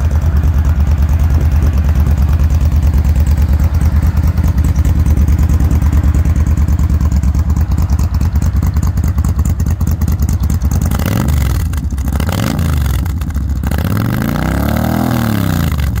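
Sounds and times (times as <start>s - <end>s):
motorcycle engine idling: 0.0s - 16.0s
motorcycle engine revving: 0.0s - 16.0s.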